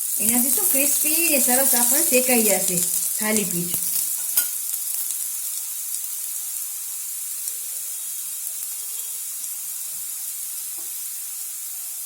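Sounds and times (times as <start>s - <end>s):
flatbread sizzling on griddle: 0.0s - 12.0s.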